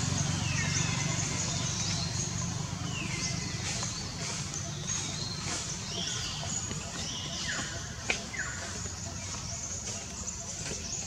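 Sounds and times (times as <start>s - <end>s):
high chirping calls: 0.0s - 11.0s.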